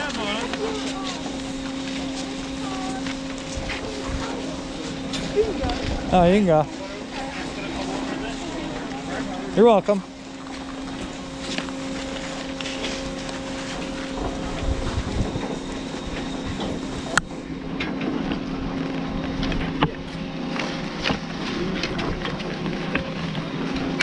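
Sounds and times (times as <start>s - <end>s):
chairlift machinery hum: 0.0s - 24.0s.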